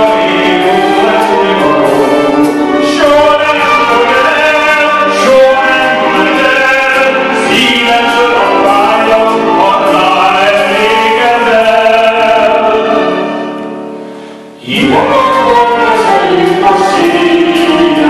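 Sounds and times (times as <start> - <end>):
man singing: 0.0 - 13.6, 14.6 - 18.0
small band with violin: 0.0 - 18.0.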